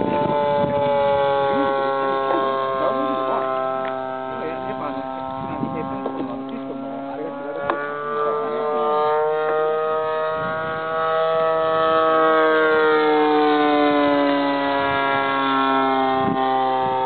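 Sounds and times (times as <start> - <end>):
model aeroplane engine buzzing: 0.0 - 17.0.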